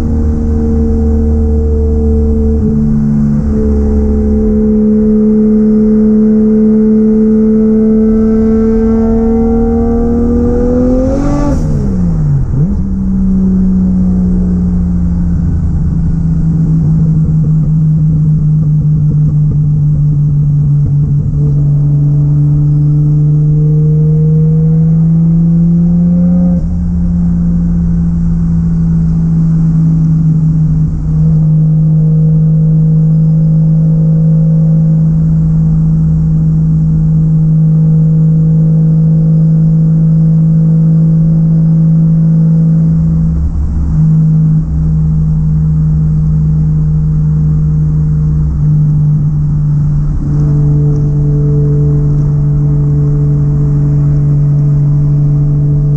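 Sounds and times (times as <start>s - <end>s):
car engine revving hard: 0.0s - 17.7s, 21.1s - 55.9s.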